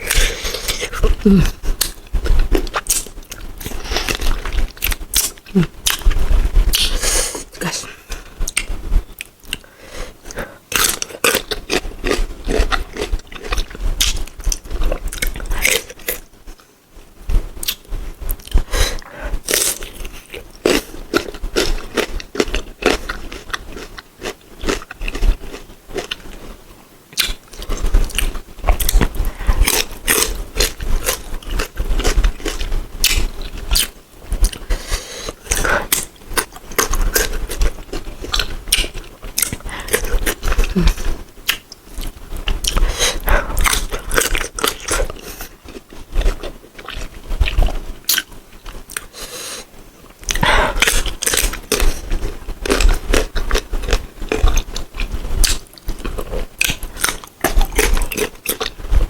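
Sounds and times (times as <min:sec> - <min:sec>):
crunchy biting and chewing: 0:00.0 - 0:07.6, 0:10.3 - 0:16.3, 0:19.3 - 0:26.4, 0:27.2 - 0:59.0.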